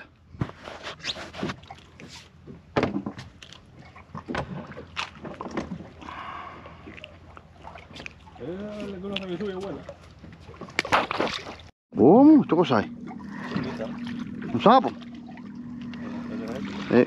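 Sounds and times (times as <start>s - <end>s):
water sloshing against hull: 0.2s - 17.0s.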